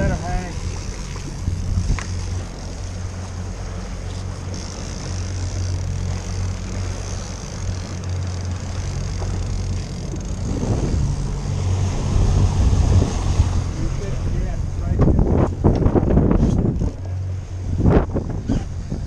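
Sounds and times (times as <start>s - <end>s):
boat engine droning: 0.0s - 19.0s
wind and water hiss: 0.0s - 19.0s.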